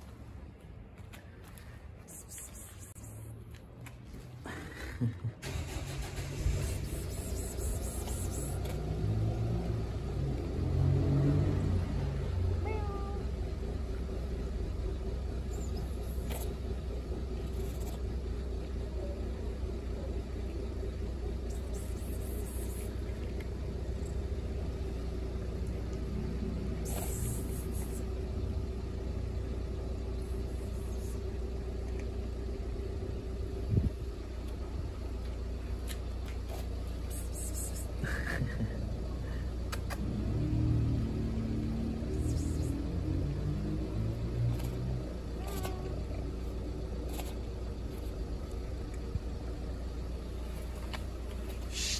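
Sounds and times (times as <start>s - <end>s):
low rumble: 5.9s - 51.6s.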